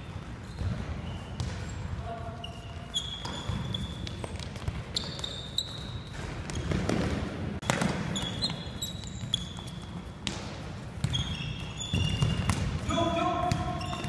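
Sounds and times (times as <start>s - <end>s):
sneakers squeaking: 0.0s - 14.0s.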